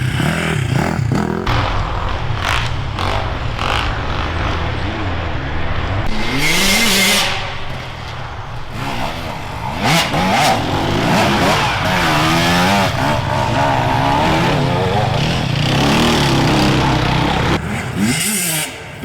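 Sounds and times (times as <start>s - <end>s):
loud rushing noise: 0.0s - 19.0s
motorcycle engines revving: 0.0s - 19.0s.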